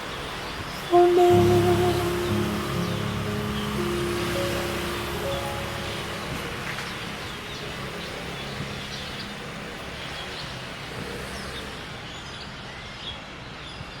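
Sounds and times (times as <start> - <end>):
traffic hum: 0.2 - 12.5.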